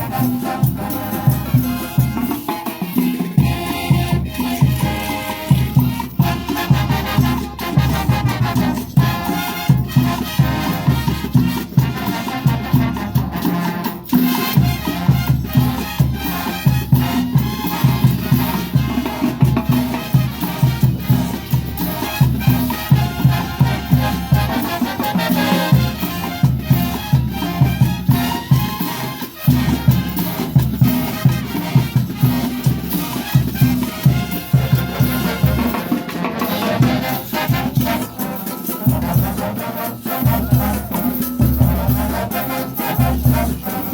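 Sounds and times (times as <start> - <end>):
brass band music with tuba: 0.0 - 43.9.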